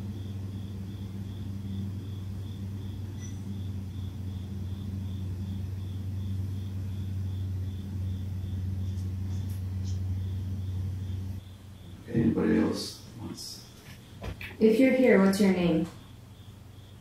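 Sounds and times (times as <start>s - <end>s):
cricket chirping: 0.0s - 17.0s
low mechanical hum: 0.0s - 17.0s.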